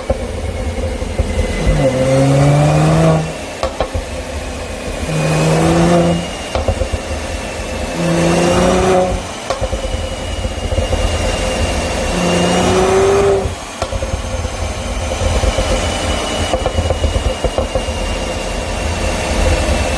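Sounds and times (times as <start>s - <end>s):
car engine revving: 0.0s - 19.9s
exhaust crackles and pops: 0.0s - 19.9s.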